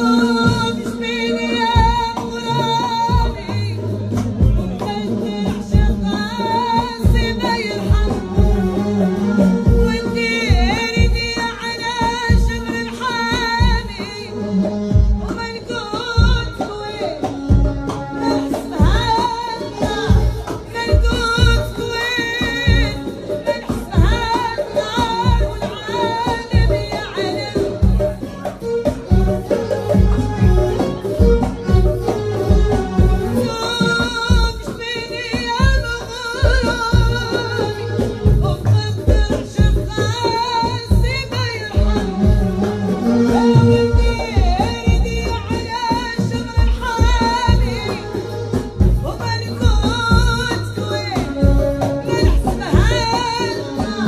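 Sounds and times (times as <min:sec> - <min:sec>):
deep drum beat: 0:00.0 - 0:54.0
percussion: 0:00.0 - 0:54.0
woman singing into microphone: 0:00.0 - 0:54.0.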